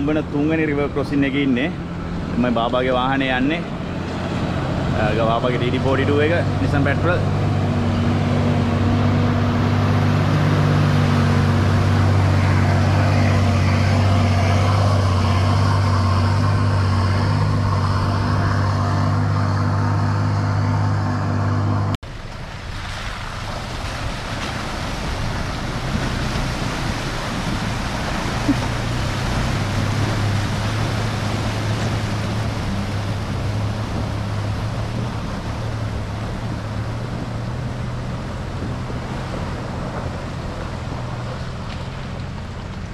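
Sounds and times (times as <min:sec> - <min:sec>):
diesel engine running: 0:00.0 - 0:22.6, 0:23.2 - 0:42.9.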